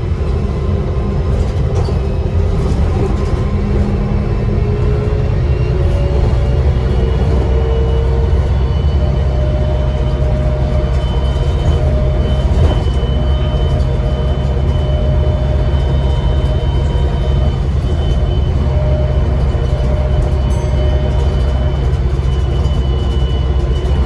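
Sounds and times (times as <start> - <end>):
bus engine droning: 0.0 - 24.0.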